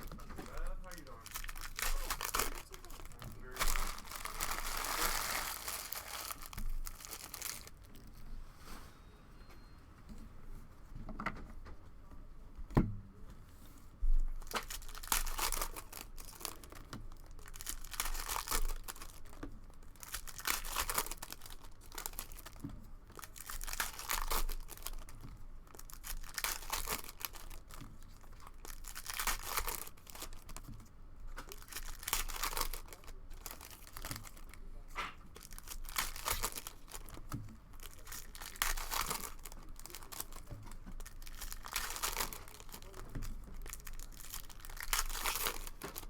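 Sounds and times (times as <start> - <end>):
plastic wrappers tearing and crinkling: 0.0 - 8.2, 14.3 - 46.0.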